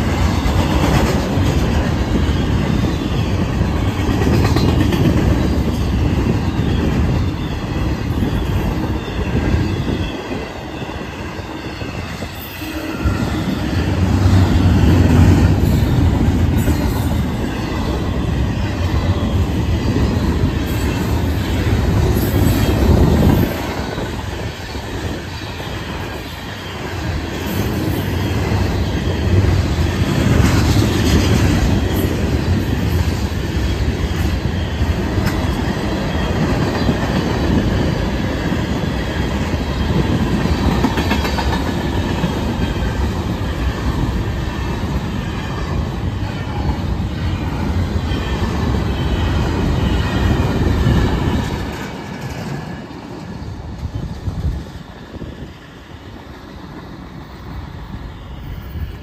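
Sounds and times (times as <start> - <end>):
freight cars rumbling on rails: 0.0 - 59.0.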